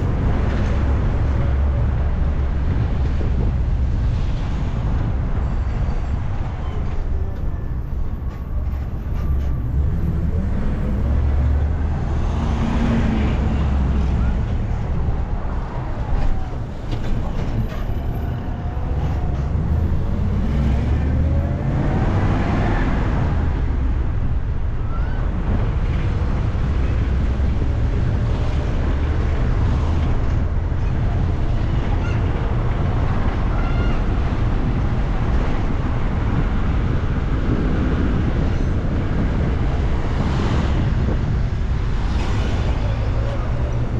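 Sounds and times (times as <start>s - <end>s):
bus engine rumble: 0.0s - 43.9s
road and traffic noise: 0.0s - 43.9s.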